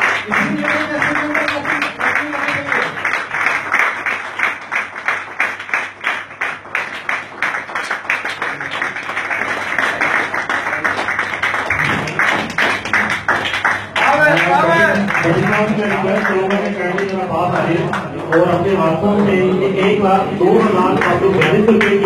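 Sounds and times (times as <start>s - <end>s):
audience rhythmic clapping: 0.0s - 22.0s.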